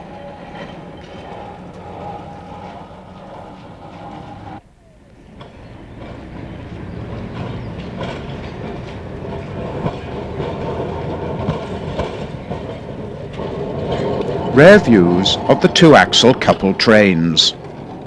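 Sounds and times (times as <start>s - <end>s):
tram wheels rumbling on track: 0.0s - 18.0s.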